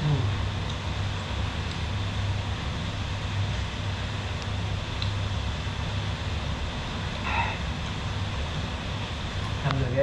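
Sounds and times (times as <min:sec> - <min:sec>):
heavy rain muffled through door: 0:00.0 - 0:10.0.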